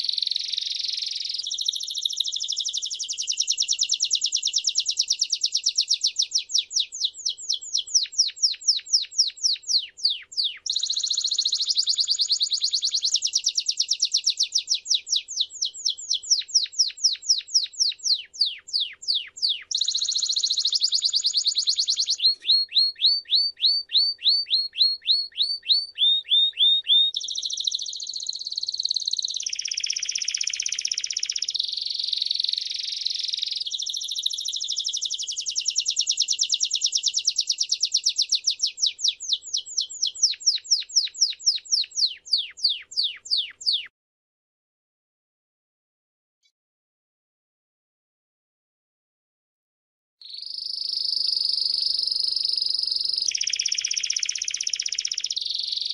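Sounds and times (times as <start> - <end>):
canary singing trills: 0.0 - 43.9, 50.2 - 55.9.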